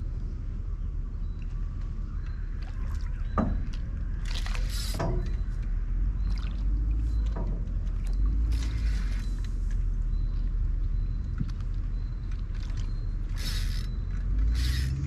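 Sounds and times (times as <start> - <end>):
boat and tackle handling: 0.0 - 15.0
steady low rumble: 0.0 - 15.0.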